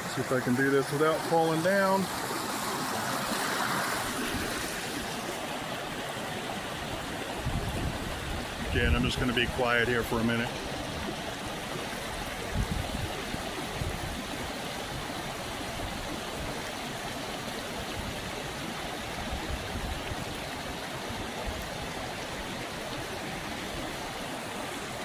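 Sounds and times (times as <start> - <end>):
creek water rushing over waterfalls: 0.0 - 25.0.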